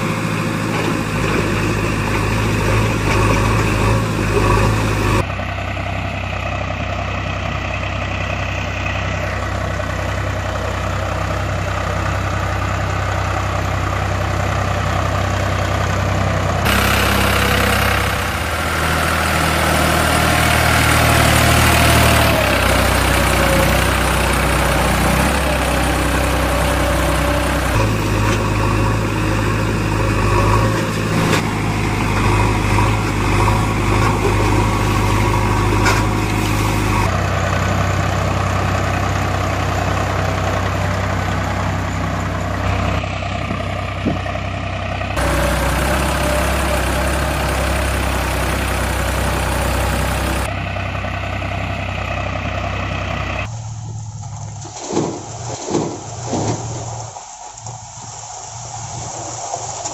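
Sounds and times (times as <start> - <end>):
engine idling: 0.0 - 58.8.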